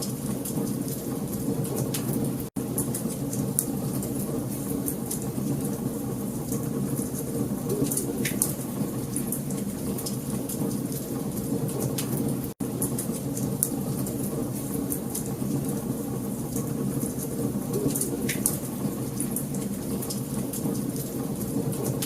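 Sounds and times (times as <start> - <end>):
low rumble of burning logs: 0.0 - 22.0
wood fire crackling: 0.0 - 22.0.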